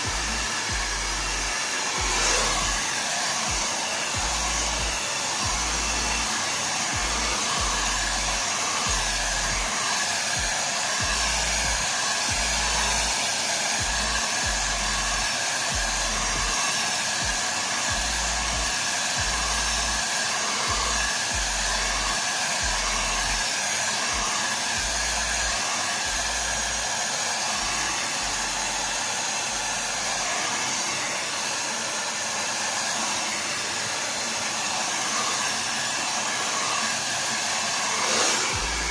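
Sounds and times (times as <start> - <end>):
hair dryer blowing air: 0.0 - 38.9.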